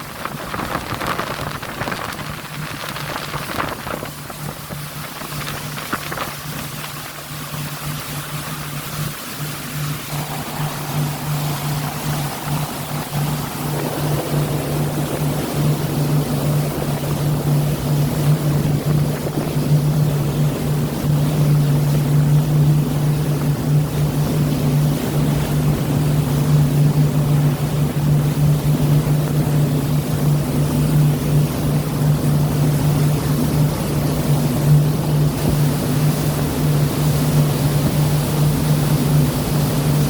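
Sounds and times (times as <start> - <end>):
boat engine hum: 0.0 - 40.0
sea water rushing: 0.0 - 40.0.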